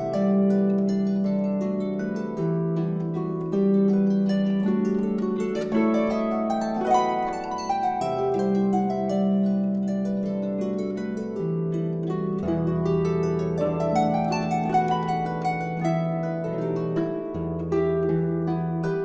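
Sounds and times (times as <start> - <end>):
harp plucked melody: 0.0 - 19.0.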